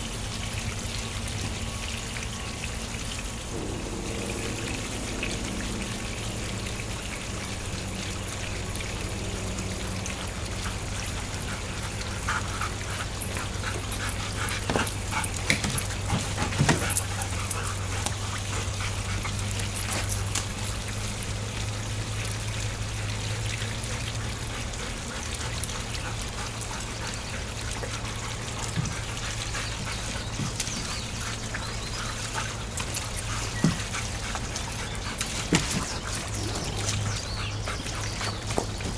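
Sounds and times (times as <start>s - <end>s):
water trickling: 0.0s - 38.9s
dogs splashing in water: 6.9s - 38.9s.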